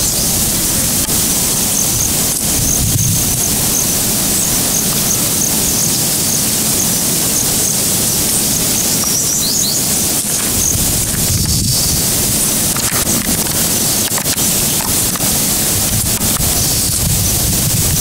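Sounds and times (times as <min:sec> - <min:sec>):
loud outdoor hiss: 0:00.0 - 0:18.0.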